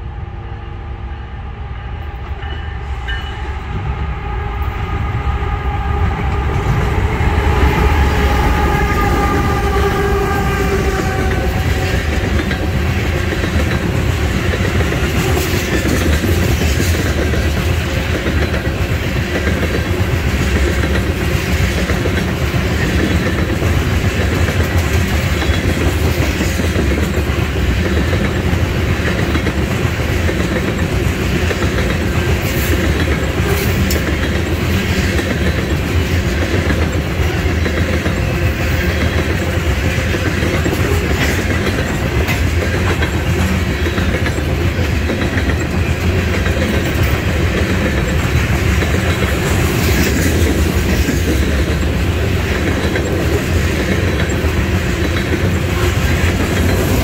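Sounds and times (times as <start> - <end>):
train wheels rumbling on rails: 0.0 - 57.0
wheels clacking over rail joints: 6.4 - 57.0.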